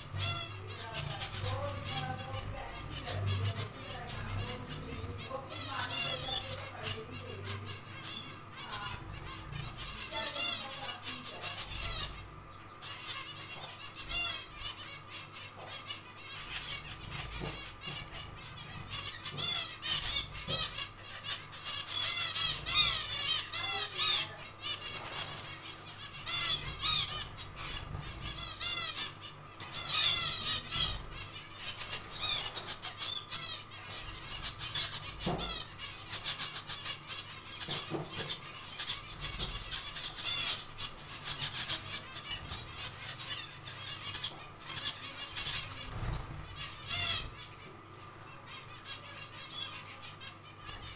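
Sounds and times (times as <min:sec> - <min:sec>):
faint steady hum: 0:00.0 - 0:50.9
finches calling: 0:00.0 - 0:50.9.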